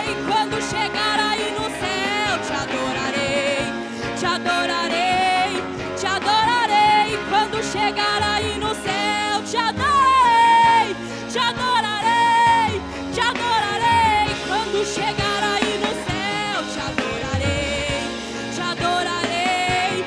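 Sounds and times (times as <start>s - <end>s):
gospel worship song with band: 0.0s - 20.0s
wordless sliding vocal melody: 0.0s - 20.0s.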